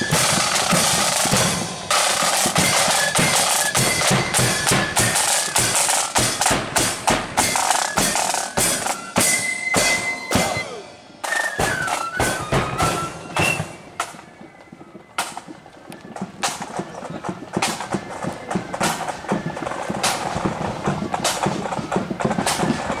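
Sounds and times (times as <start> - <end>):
flute notes: 0.0 - 23.0
side drums and bass drum beating: 0.0 - 23.0.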